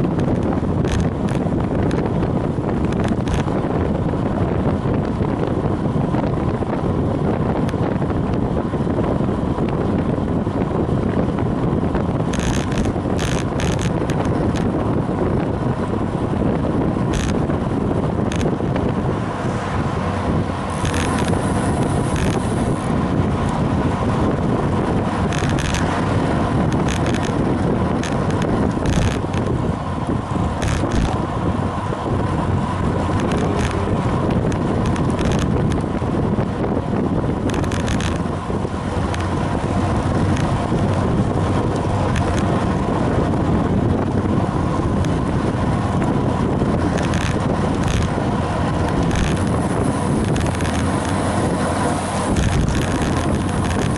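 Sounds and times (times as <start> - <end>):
tyres on asphalt: 0.0 - 53.9
wind buffeting microphone: 0.0 - 53.9.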